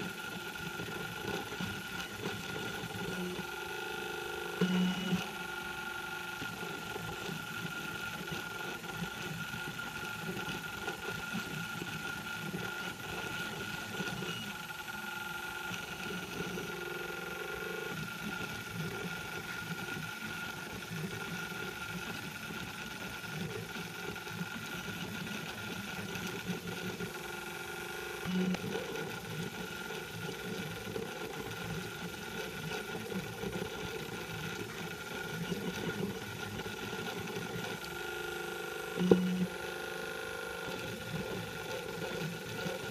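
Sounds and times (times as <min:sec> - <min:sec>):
printer stepper motors buzzing: 0:00.0 - 0:42.9.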